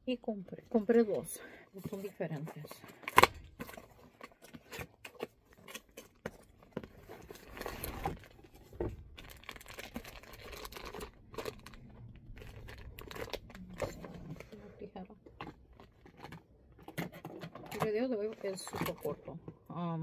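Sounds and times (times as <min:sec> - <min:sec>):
plastic packaging crinkling: 0:01.8 - 0:14.7, 0:15.3 - 0:19.4.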